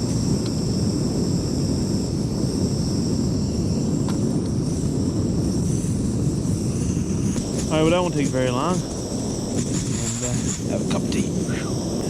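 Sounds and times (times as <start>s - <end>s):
gas stove burner hissing: 0.0s - 12.0s.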